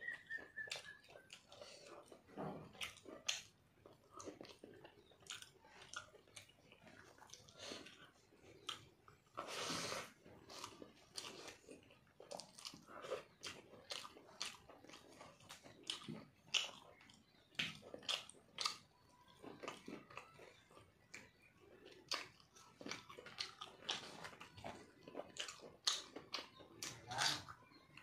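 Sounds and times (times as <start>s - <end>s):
person chewing: 0.0s - 28.0s.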